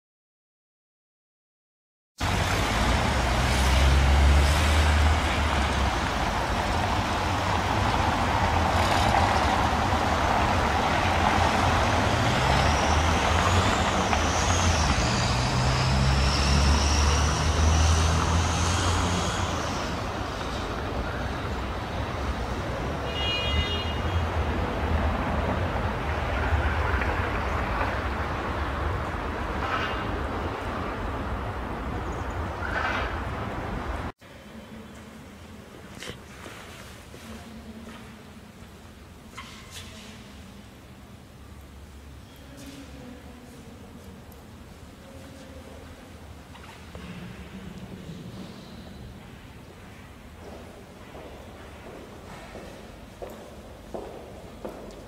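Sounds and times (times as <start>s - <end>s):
street traffic rumble: 2.2s - 55.0s.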